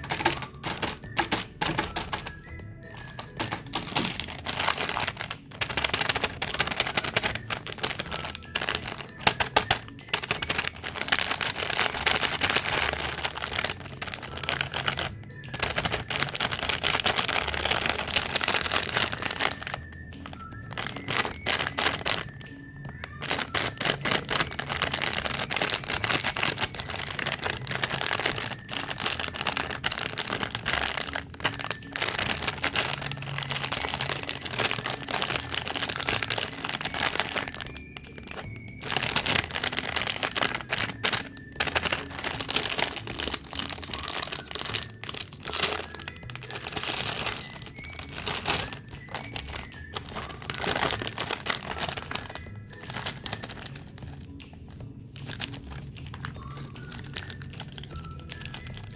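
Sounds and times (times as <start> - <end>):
faint background music: 0.0 - 58.9
plastic wrappers crinkling and tearing: 0.0 - 58.9.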